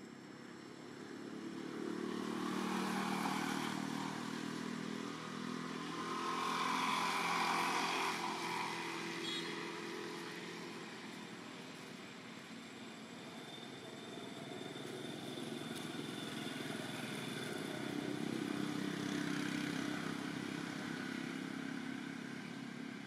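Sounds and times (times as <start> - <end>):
motorcycle engine passing by: 1.1 - 11.8, 14.6 - 23.0.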